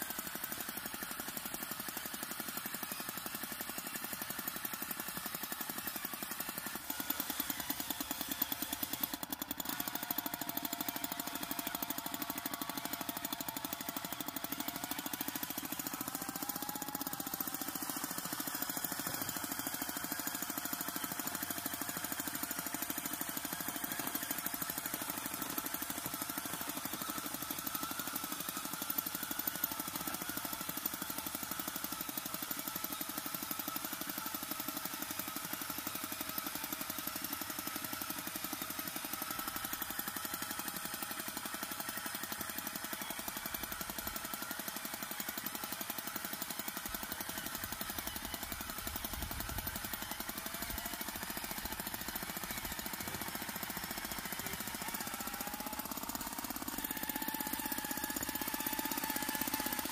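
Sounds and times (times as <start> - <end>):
model tractor engine chugging: 0.0 - 59.9.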